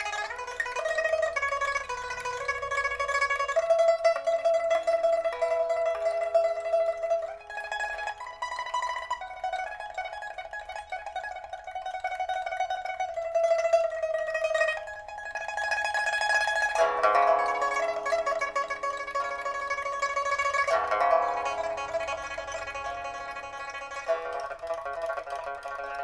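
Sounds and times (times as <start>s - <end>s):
pipa plucked melody: 0.0s - 26.0s.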